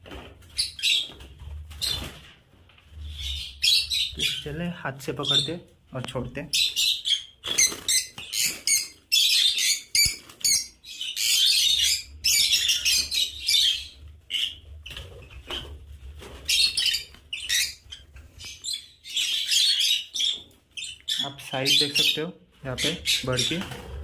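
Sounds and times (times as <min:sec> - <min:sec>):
birds chirping and screeching: 0:00.1 - 0:24.0.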